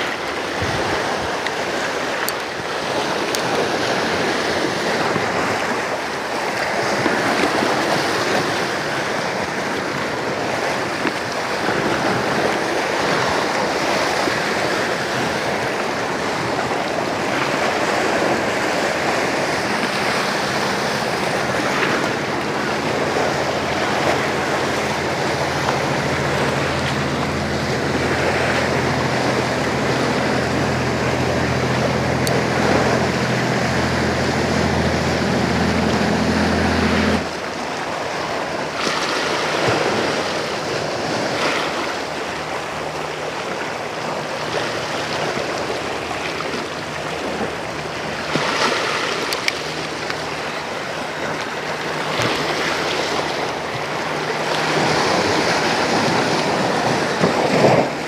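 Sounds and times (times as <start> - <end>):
boat engine humming: 0.0 - 58.0
sea waves against rocks: 0.0 - 58.0.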